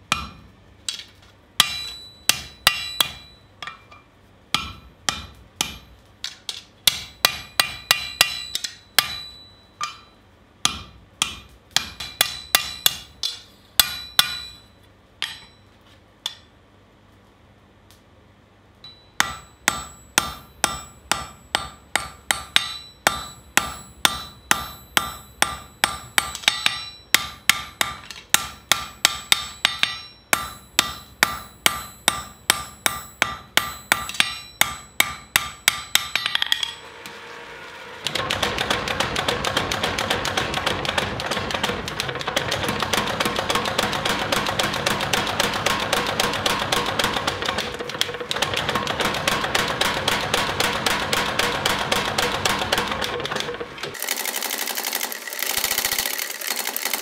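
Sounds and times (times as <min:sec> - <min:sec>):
hammer striking metal on anvil: 0:00.0 - 0:01.0, 0:01.6 - 0:16.5, 0:18.8 - 0:37.2, 0:38.0 - 0:53.4.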